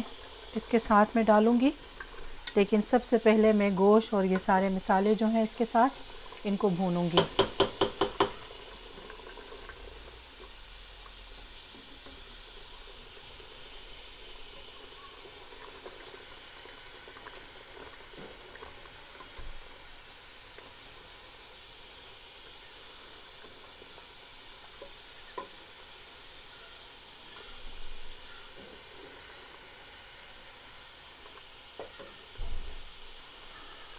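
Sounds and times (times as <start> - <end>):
curry sizzling in a pot: 0.0 - 33.9.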